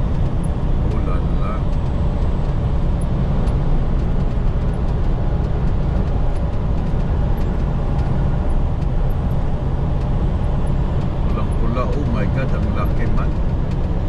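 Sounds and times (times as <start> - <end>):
truck cab rumble: 0.0 - 14.0.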